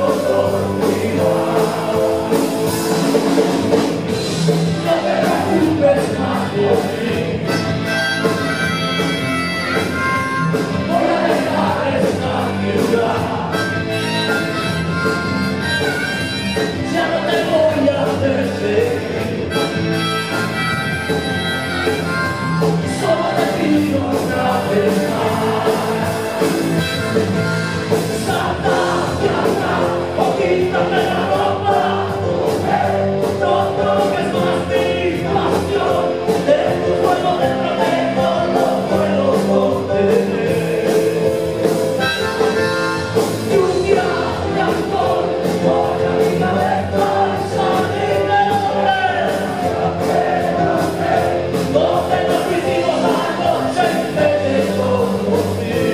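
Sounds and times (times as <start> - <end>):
person singing: 0.0 - 3.4, 4.4 - 20.8, 22.0 - 55.9
live rock band playing: 0.0 - 55.9.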